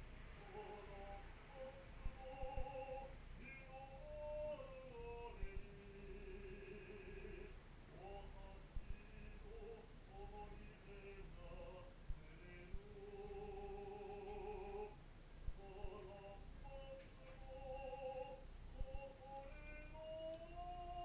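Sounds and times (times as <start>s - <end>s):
classical singer singing held notes: 0.0s - 21.0s.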